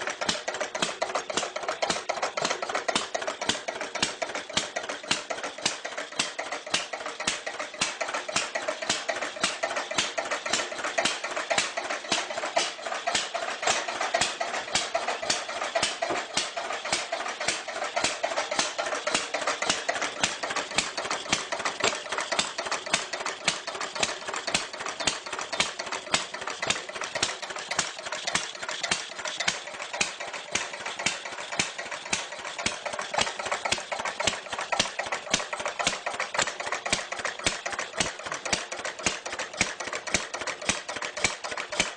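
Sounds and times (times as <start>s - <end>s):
old engine idling with clatter: 0.0s - 41.9s.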